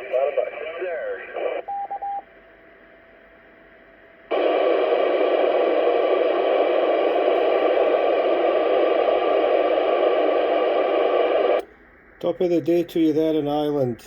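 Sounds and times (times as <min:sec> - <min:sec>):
radio static rush: 0:00.0 - 0:01.6, 0:04.3 - 0:14.0.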